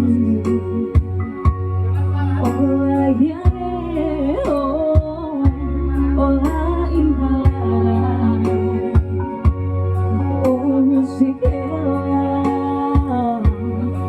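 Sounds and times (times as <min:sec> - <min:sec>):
backing music with bass: 0:00.0 - 0:14.0
person singing: 0:00.0 - 0:14.0.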